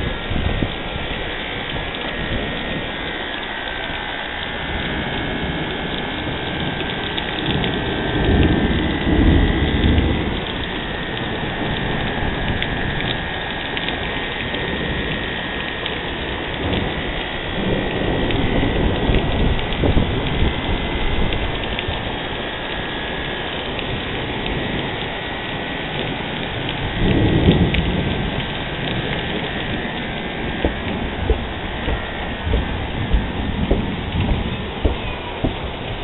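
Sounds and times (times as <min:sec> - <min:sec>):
low rumble of thunder: 0:00.0 - 0:36.0
steady rain: 0:00.0 - 0:36.0.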